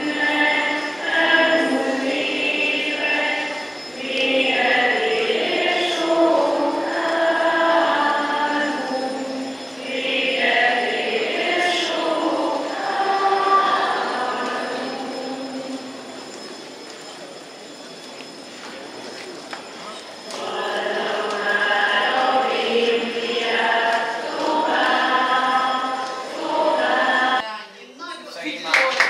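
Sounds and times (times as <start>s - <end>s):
students singing in unison: 0.0s - 16.2s, 20.2s - 27.4s.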